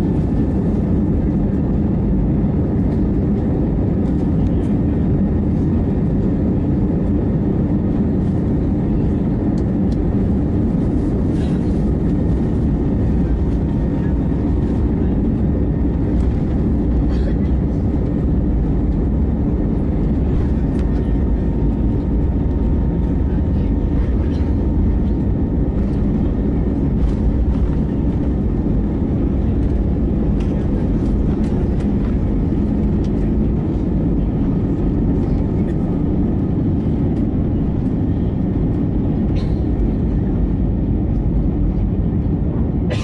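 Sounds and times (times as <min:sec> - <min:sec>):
airplane cabin rumble: 0:00.0 - 0:43.0.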